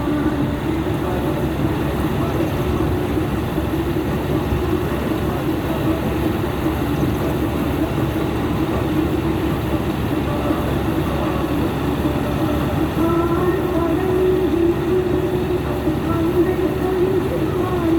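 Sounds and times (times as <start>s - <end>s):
harvest machinery engine drone: 0.0s - 17.9s.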